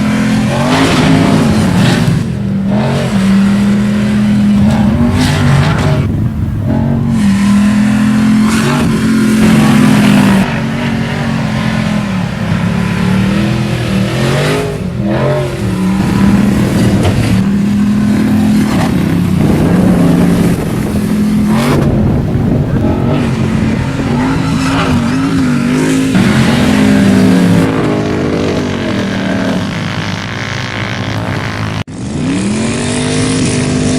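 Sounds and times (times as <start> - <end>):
pickup engine revving: 0.0 - 33.9.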